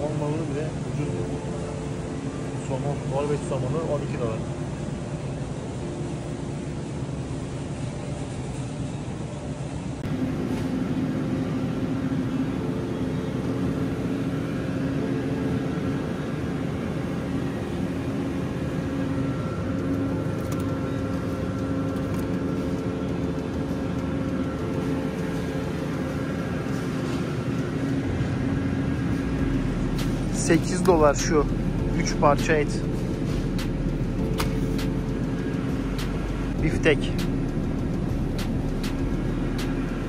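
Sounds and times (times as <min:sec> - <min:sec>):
mechanical equipment hum: 0:00.0 - 0:40.0.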